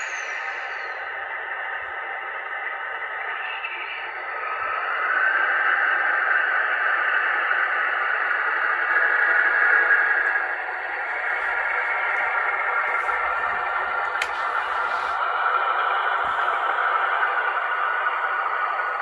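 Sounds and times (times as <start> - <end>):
model locomotive humming: 0.0 - 19.0.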